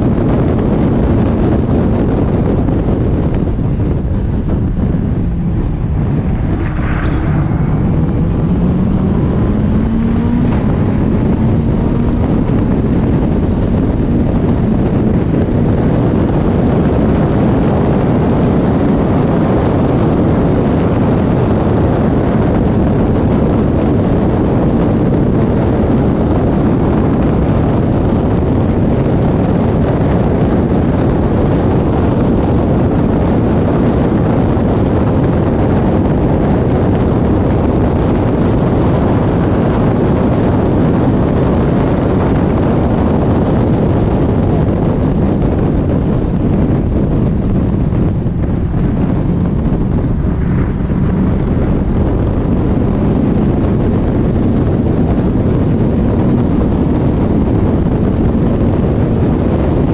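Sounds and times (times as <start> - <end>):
car engine running hard: 0.0 - 59.9
wind buffeting on microphone: 0.0 - 59.9.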